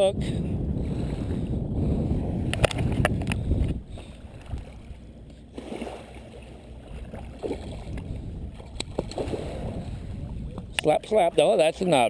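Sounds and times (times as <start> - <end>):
water lapping at beach: 0.0 - 12.0
wind rumble on microphone: 0.0 - 12.0.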